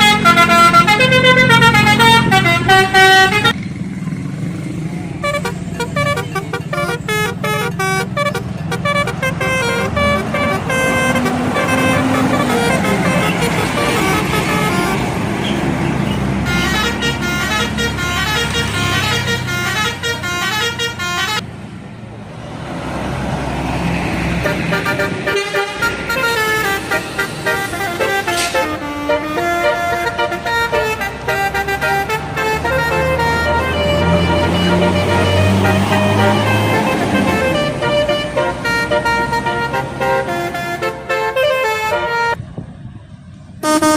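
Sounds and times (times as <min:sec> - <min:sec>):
multi-tone bus horns playing tunes: 0:00.0 - 0:03.6, 0:05.1 - 0:21.4, 0:23.9 - 0:42.4, 0:43.6 - 0:43.9
engine rumble: 0:00.0 - 0:43.9.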